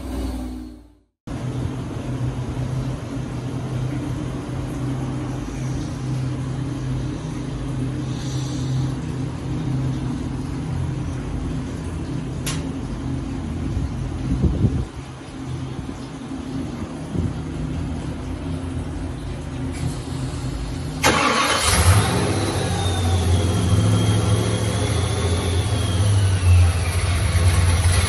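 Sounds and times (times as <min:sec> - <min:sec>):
supercharged engine idling: 0:01.5 - 0:28.0.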